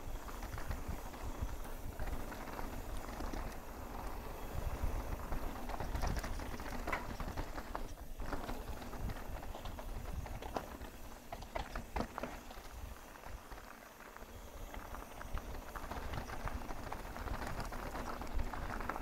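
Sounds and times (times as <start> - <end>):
bike knocking and rattling: 0.0 - 19.0
bike tyres crunching over rock: 0.0 - 19.0
wind rumbling on microphone: 0.0 - 19.0.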